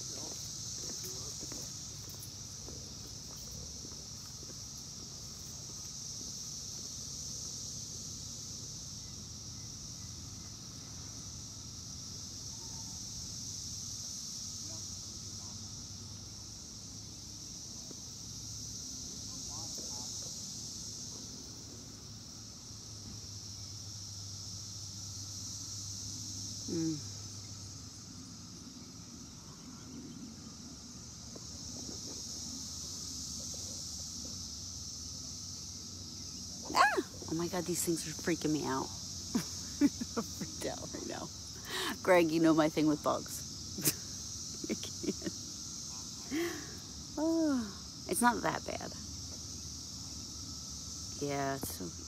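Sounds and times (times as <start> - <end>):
cicadas buzzing chorus: 0.0 - 52.0.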